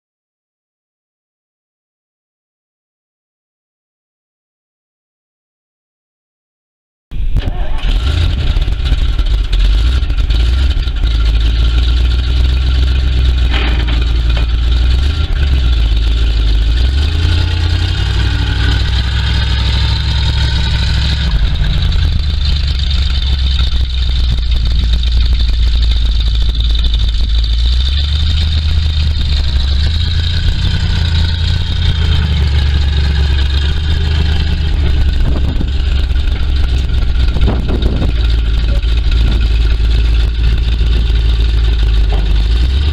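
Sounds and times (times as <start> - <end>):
truck engine idling: 7.4 - 42.9.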